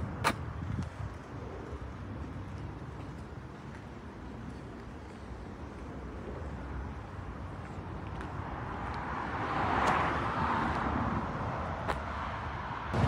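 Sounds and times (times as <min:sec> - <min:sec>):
passing vehicle: 0:00.0 - 0:13.0.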